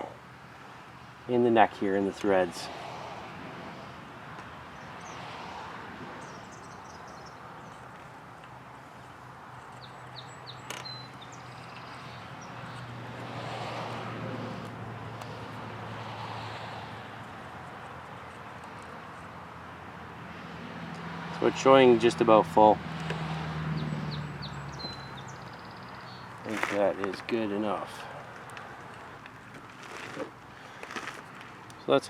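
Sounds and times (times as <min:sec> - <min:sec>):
distant traffic hiss: 0:00.0 - 0:32.0.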